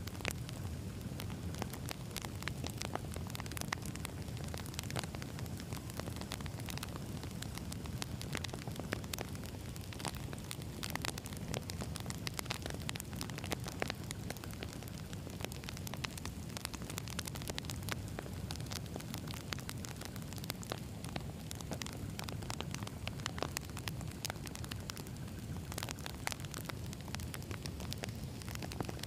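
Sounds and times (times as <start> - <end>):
firewood crackling and popping: 0.0 - 29.0
low rush of flames: 0.0 - 29.0.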